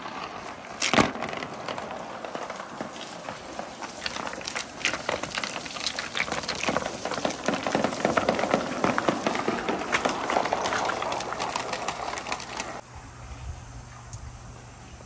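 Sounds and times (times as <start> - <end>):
marbles rolling down wooden chute: 0.0 - 12.8
running water hiss: 0.0 - 12.8.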